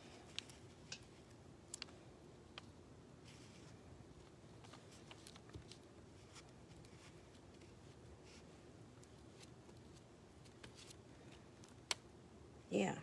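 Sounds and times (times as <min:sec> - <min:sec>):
faint fingertip clicks and rustles: 0:00.0 - 0:12.2.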